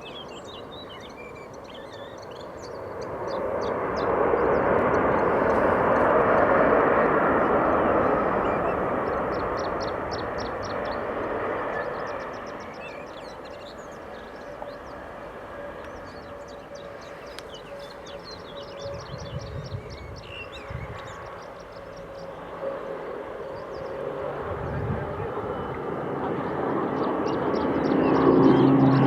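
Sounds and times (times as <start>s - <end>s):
small birds chirping: 0.0s - 24.8s, 26.4s - 29.0s
aircraft engine noise: 0.0s - 29.0s.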